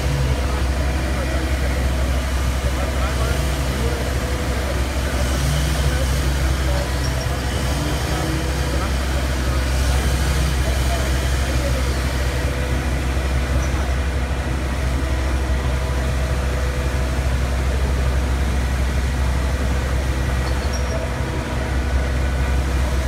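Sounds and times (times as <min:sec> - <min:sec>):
heavy diesel engines rumbling: 0:00.0 - 0:23.0.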